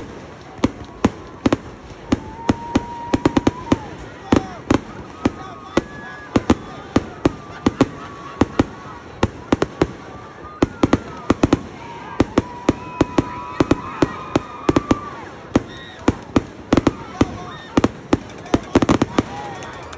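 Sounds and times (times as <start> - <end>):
fireworks bangs: 0.0 - 19.9
voices: 0.0 - 19.9.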